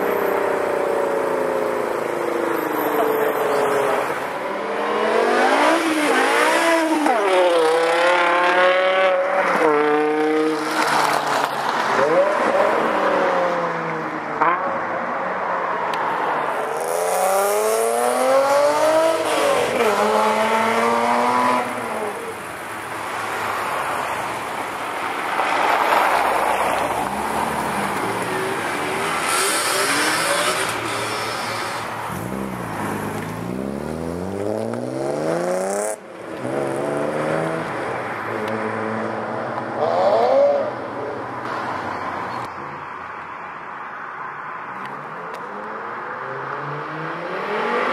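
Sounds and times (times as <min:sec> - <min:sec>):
sports car engines revving: 0:00.0 - 0:14.8, 0:16.5 - 0:41.5, 0:45.3 - 0:47.9.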